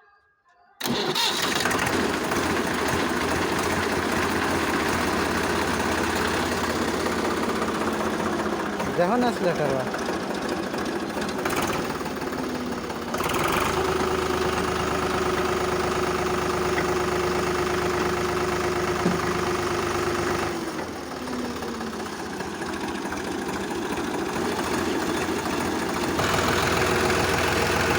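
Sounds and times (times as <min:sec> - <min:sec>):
tractor diesel engine running: 0:00.8 - 0:27.9.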